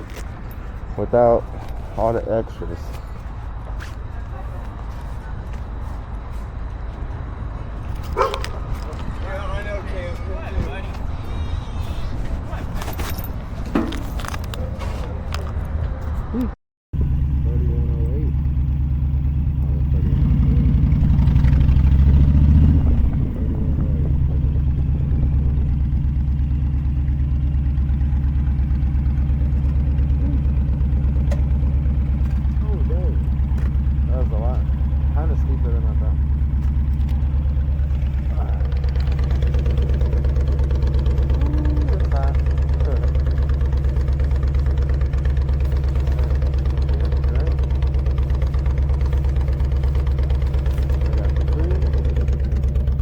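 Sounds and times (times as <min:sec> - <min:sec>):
motorcycle engine running: 0:00.0 - 0:16.4, 0:17.0 - 0:53.0.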